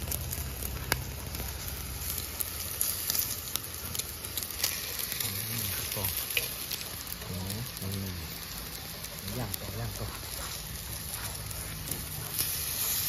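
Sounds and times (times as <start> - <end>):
fat crackling: 0.0 - 13.0
meat sizzling on grill: 0.0 - 13.0.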